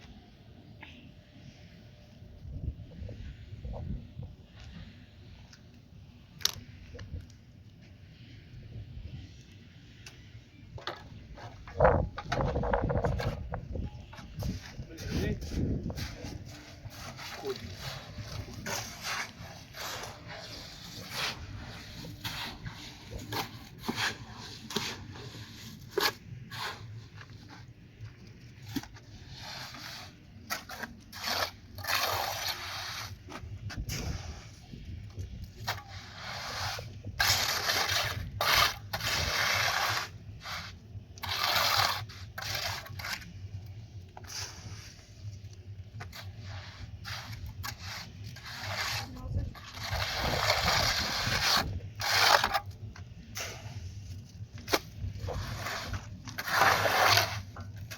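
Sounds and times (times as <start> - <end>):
scraping strokes: 9.9 - 27.8, 28.6 - 57.9.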